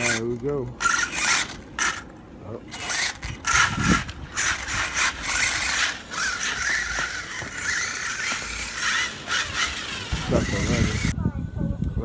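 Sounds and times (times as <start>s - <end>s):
toy truck motor whirring: 0.0s - 11.2s.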